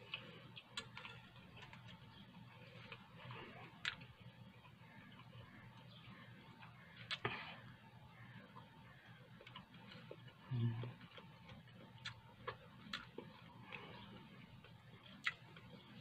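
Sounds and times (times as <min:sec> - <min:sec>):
person chewing food: 0:00.0 - 0:07.8, 0:08.4 - 0:16.0.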